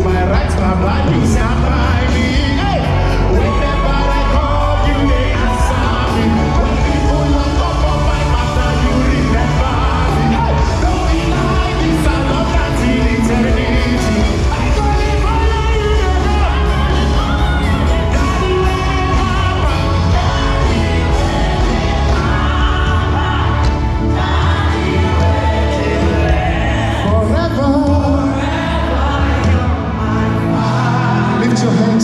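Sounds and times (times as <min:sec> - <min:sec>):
backing vocalists: 0:00.0 - 0:32.0
band playing: 0:00.0 - 0:32.0
man singing lead: 0:00.0 - 0:32.0.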